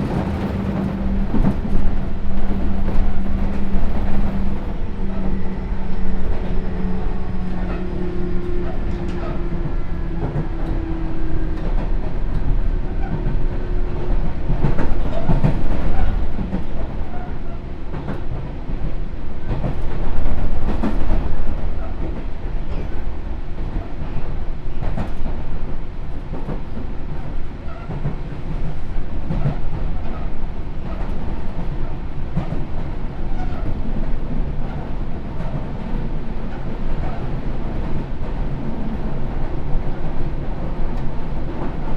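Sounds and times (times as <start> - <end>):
train wheels rumbling: 0.0 - 41.9.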